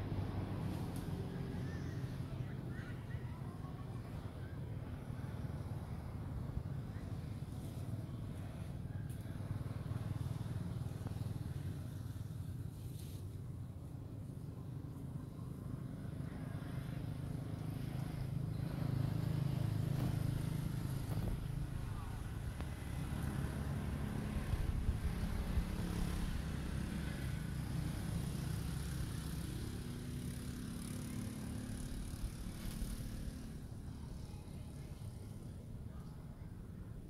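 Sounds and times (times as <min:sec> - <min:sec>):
passing vehicle engines humming: 0:00.0 - 0:37.0.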